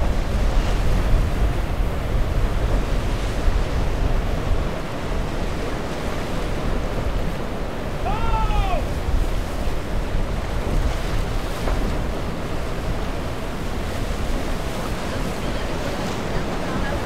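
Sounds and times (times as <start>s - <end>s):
surf breaking over rocks: 0.0s - 17.0s
wind buffeting microphone: 0.0s - 17.0s.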